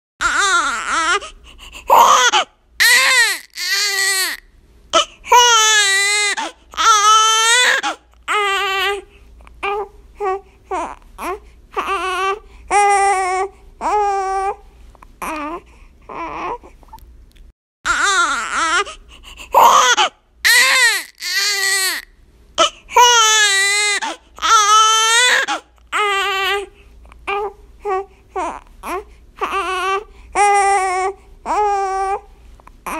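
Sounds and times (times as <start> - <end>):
baby crying: 0.2 - 4.4, 5.0 - 14.6, 15.2 - 16.8, 17.9 - 26.7, 27.3 - 32.3.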